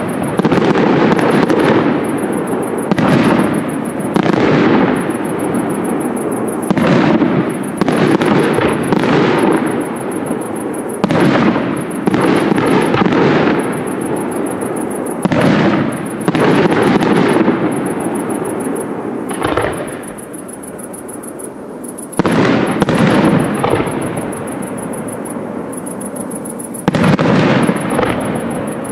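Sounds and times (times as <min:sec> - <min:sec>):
firework shells bursting: 0:00.0 - 0:28.9.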